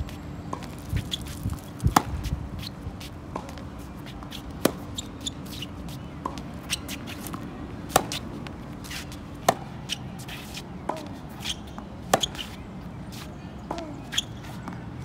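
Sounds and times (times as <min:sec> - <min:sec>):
tennis ball bouncing: 0:00.5 - 0:12.6, 0:13.2 - 0:14.9
tennis racket hitting ball: 0:00.5 - 0:12.6.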